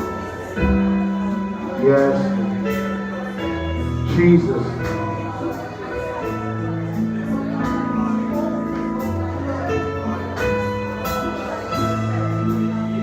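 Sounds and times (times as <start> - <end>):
slow instrumental worship music: 0.0 - 13.0.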